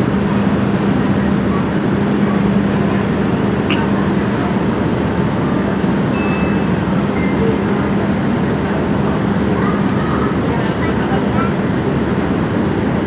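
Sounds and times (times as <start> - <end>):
ferry engines droning: 0.0 - 13.0.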